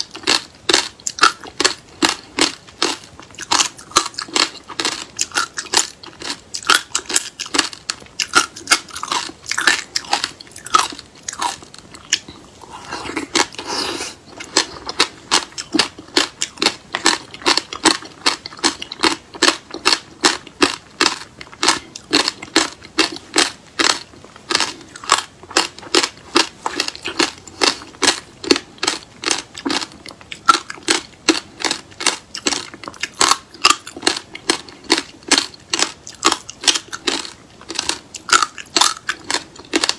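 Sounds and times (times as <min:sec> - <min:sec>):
person chewing crunchy seeds: 0:00.0 - 0:39.9.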